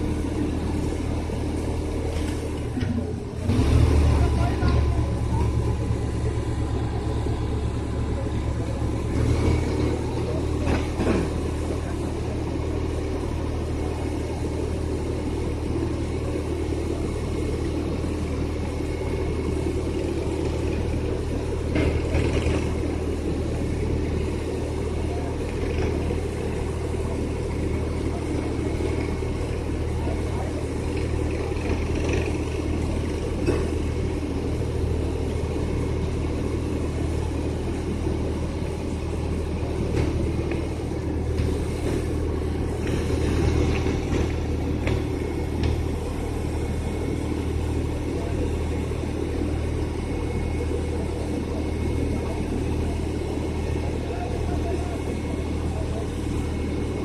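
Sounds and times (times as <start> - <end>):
heavy machinery engine droning: 0.0 - 57.0.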